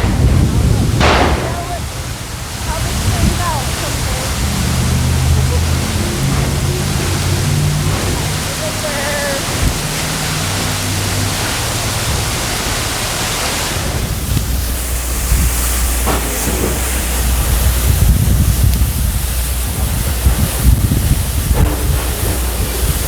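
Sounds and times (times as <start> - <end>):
waterfall rushing: 0.0 - 23.0
wind buffeting microphone: 0.0 - 23.0.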